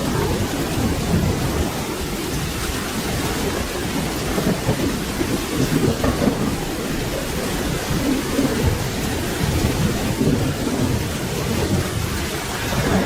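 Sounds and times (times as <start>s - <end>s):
rolling thunder rumble: 0.0s - 13.0s
steady rain: 0.0s - 13.0s.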